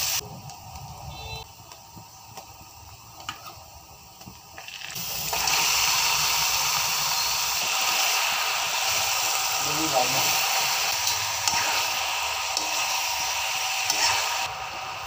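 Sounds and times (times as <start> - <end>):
meat sizzling in oil: 0.0 - 0.2, 2.1 - 15.0.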